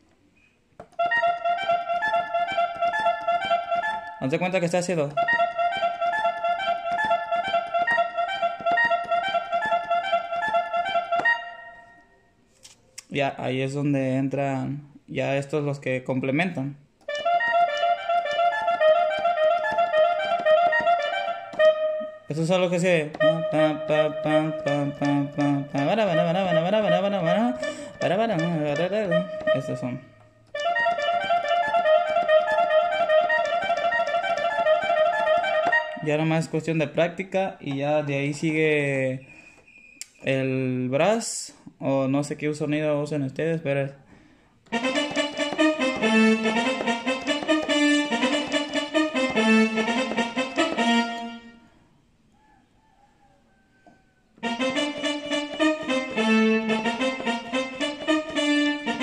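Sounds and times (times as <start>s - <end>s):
electronic keyboard cumbia pattern: 0.8s - 12.3s, 16.1s - 39.2s, 43.3s - 51.7s, 54.4s - 59.0s.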